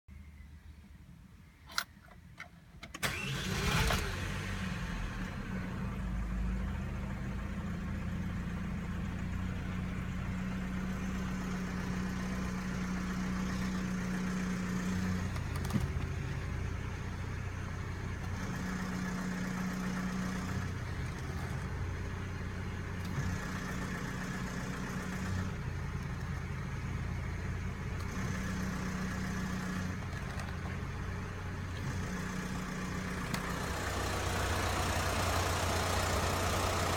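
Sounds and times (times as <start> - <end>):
car engine starting and idling: 0.3 - 36.9.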